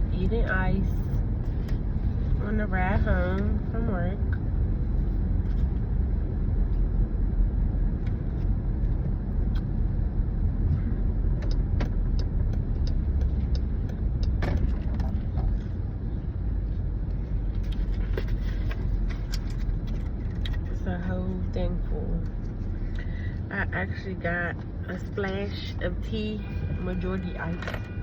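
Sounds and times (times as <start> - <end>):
car road noise inside cabin: 0.0 - 28.0.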